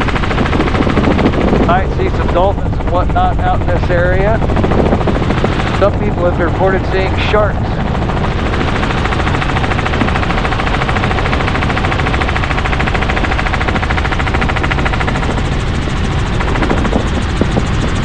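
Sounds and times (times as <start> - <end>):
helicopter engine: 0.0 - 18.0
helicopter rotor chop: 0.0 - 18.0.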